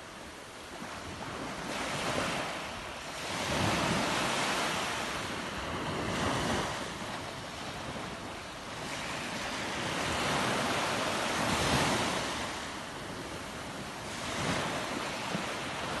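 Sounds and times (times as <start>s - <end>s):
small waves breaking on beach: 0.0s - 16.0s.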